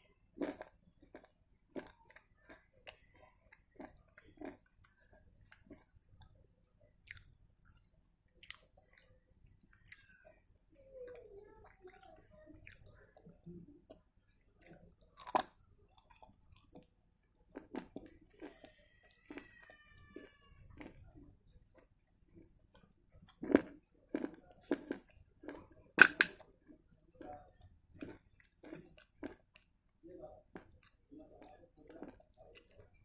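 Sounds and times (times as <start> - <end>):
soft chewing: 0.0 - 33.0.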